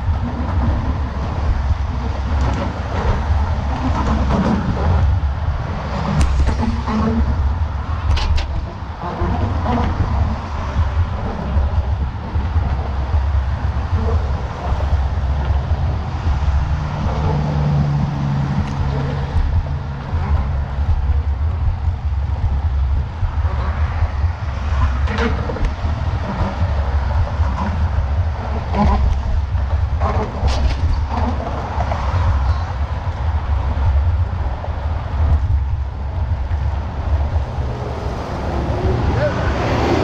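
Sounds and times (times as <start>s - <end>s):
passing vehicle engine hum: 0.0s - 40.0s
wind buffeting microphone: 0.0s - 40.0s.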